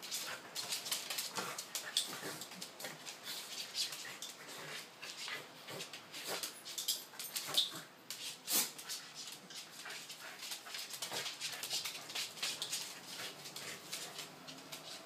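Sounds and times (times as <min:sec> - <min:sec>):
claws clicking on hard floor: 0:00.0 - 0:15.0
dogs play-fighting noises: 0:00.0 - 0:15.0.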